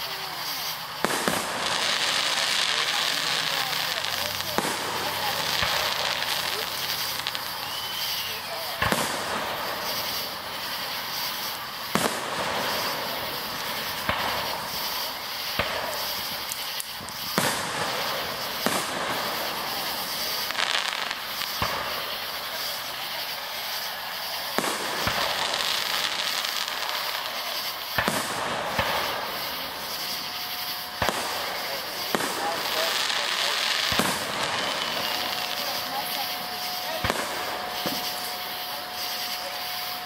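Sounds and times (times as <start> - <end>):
continuous hiss: 0.0 - 40.0
firework shells bursting: 0.0 - 40.0.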